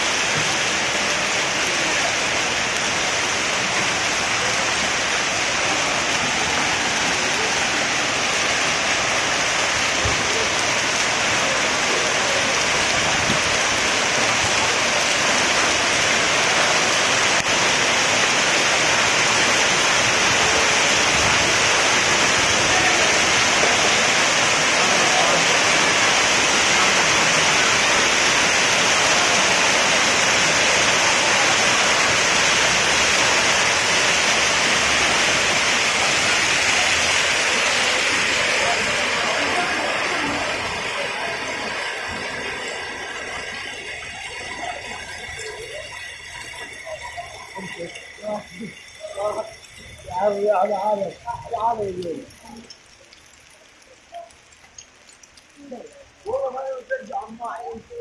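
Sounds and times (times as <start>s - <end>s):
hail and heavy rain pelting: 0.0s - 58.0s.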